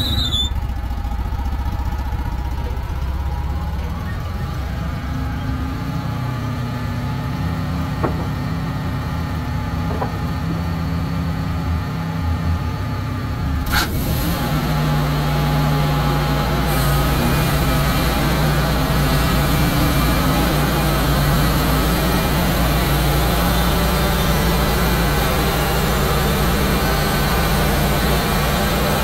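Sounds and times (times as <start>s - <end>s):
sawmill engine running: 0.0s - 29.0s.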